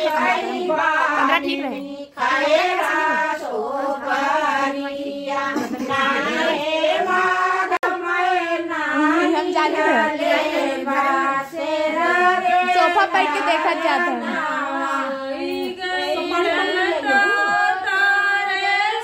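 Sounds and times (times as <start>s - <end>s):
women singing folk song: 0.0s - 19.0s.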